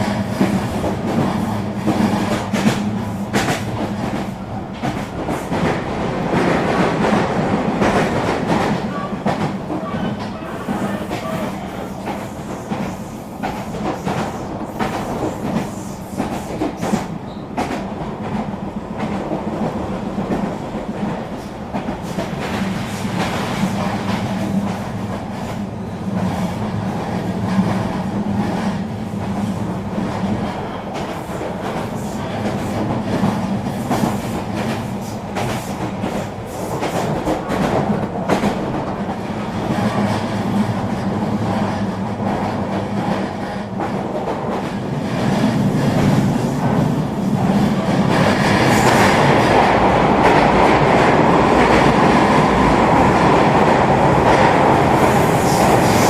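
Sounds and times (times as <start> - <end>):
train running hum: 0.0 - 56.0.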